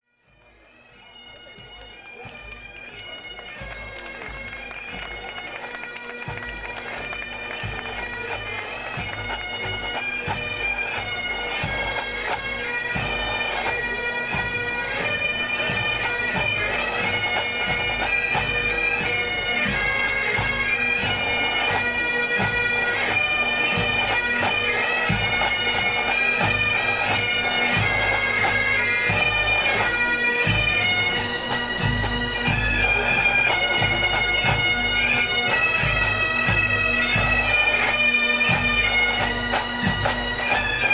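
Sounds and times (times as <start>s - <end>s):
bagpipes playing melody: 0.1s - 40.9s
drums beating: 1.4s - 40.9s.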